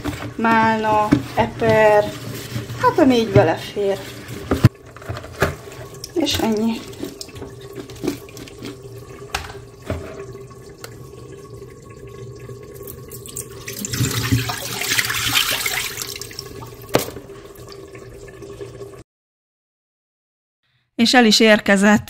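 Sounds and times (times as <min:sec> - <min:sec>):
water splashing and pouring: 0:00.0 - 0:19.0.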